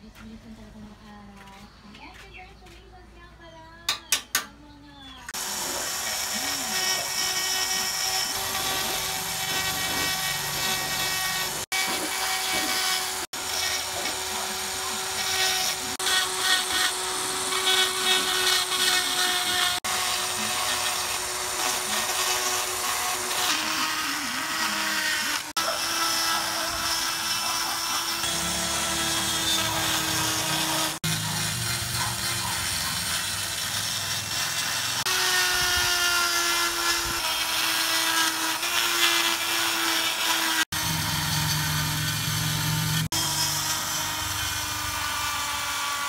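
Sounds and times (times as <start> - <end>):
electric rotary tool grinding cement: 5.3 - 46.0.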